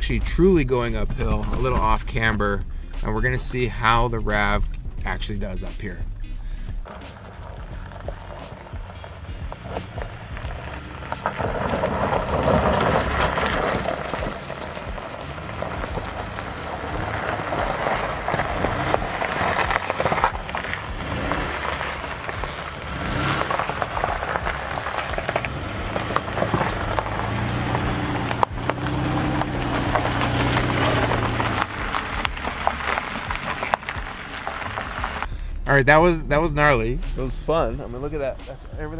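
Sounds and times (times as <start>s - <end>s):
tyres crunching over gravel: 0.0s - 35.3s
car engine under load: 0.0s - 36.2s.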